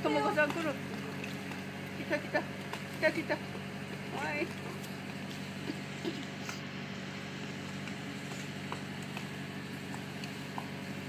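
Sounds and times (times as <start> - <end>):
boat machinery humming: 0.0 - 11.0.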